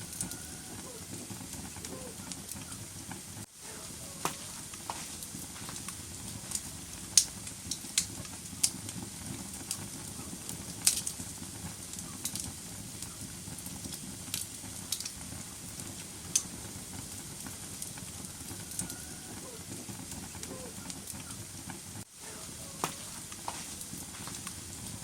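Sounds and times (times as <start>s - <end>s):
flames rumbling: 0.0s - 25.0s
wood fire crackling and popping: 0.0s - 25.0s.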